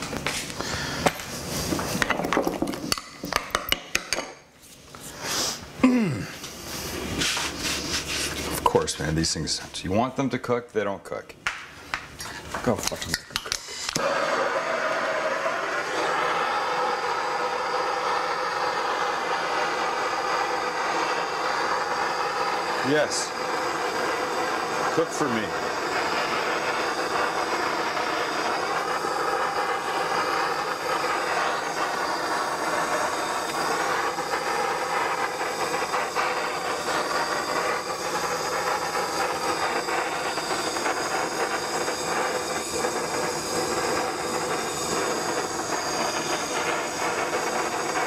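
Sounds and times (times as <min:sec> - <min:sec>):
gas torch flame hissing: 0:00.0 - 0:09.8, 0:11.8 - 0:48.0.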